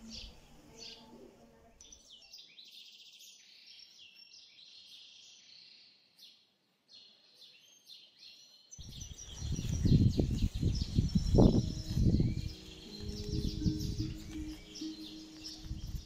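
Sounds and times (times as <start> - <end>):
birds chirping and trilling: 0.0 - 6.2, 7.1 - 16.0.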